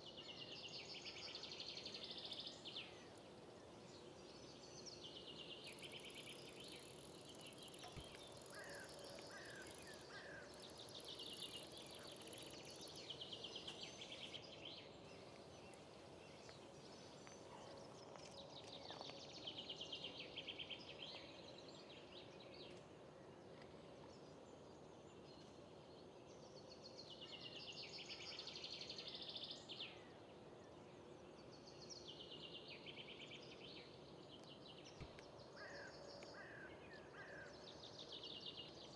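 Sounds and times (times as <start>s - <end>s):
faint outdoor ambience: 0.0s - 38.9s.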